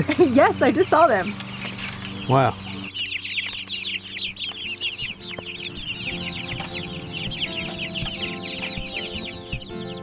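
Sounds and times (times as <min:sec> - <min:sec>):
chicks peeping: 0:00.0 - 0:10.0
low background music: 0:00.0 - 0:10.0.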